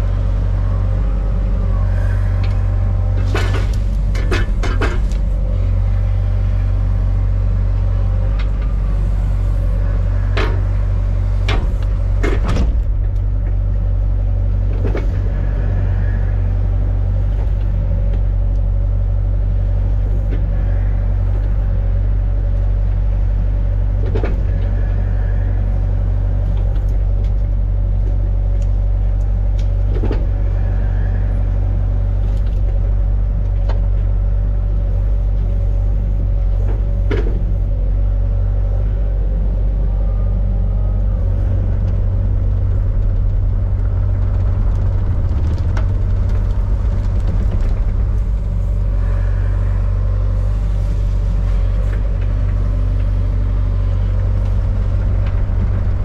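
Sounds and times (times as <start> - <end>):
diesel engine rumbling: 0.0 - 56.0
faint whine: 0.0 - 56.0.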